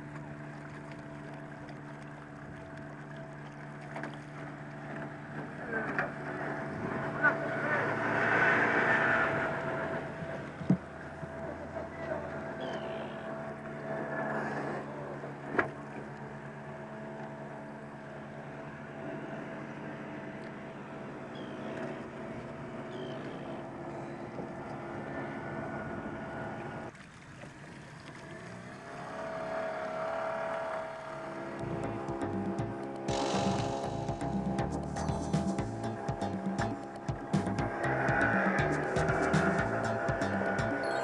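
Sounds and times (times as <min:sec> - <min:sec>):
outboard motor running: 0:00.0 - 0:41.0.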